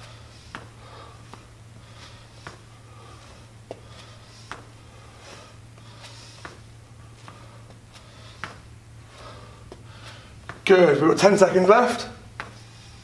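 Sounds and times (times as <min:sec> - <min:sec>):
man breathing hard through nose: 0:00.0 - 0:10.6, 0:12.5 - 0:13.0
steady low hum: 0:00.0 - 0:13.0.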